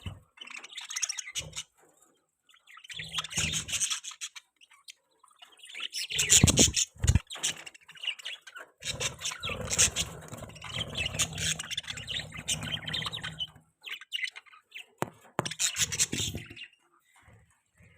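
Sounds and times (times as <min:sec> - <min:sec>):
budgerigars chirping: 0:00.0 - 0:01.8, 0:02.5 - 0:16.8.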